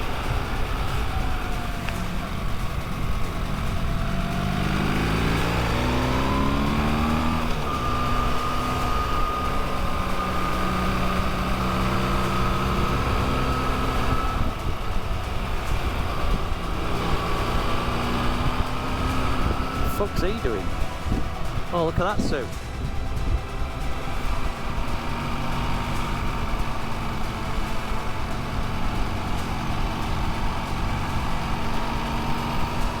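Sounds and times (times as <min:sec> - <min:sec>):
low wind rumble: 0:00.0 - 0:33.0
motorcycle engine accelerating: 0:00.0 - 0:33.0.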